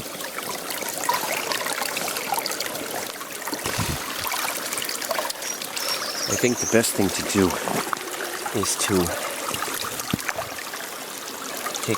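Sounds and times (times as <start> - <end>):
water trickling in ditch: 0.0 - 11.9.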